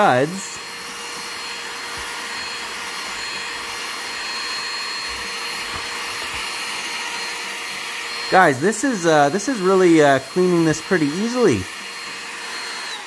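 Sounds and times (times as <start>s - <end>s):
brush nozzle on plastic bricks: 0.0s - 13.0s
mini vacuum running: 0.0s - 13.0s.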